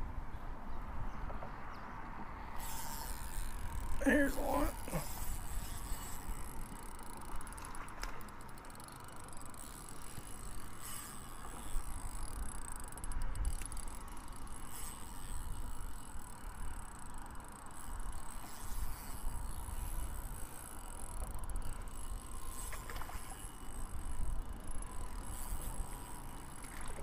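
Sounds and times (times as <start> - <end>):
fishing reel whirring: 2.4 - 27.0.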